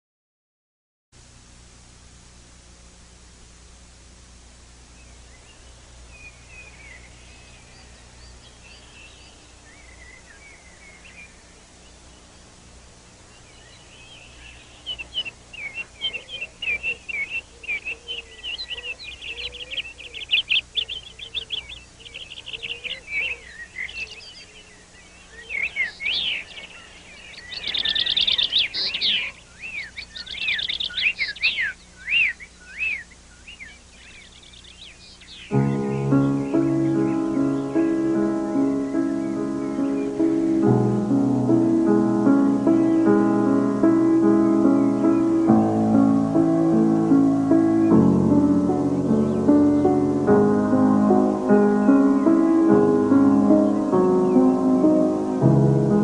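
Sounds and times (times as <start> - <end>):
faint low hum: 1.2 - 56.0
birds chirping and singing: 4.9 - 56.0.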